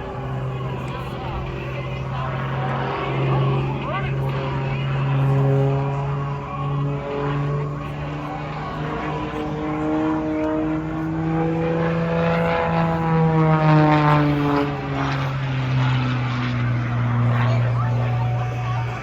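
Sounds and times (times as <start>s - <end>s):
propeller plane engine: 0.0s - 19.0s.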